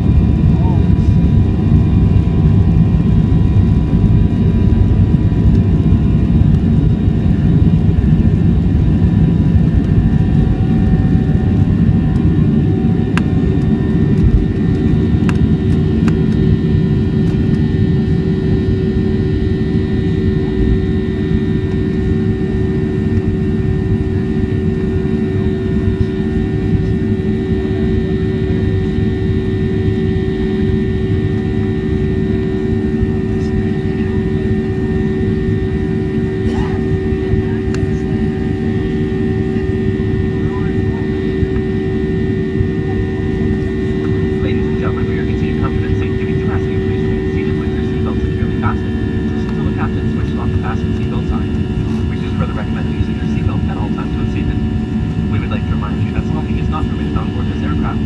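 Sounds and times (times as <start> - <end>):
jet engines rumbling: 0.0 - 58.0
steady cabin hum: 0.0 - 58.0.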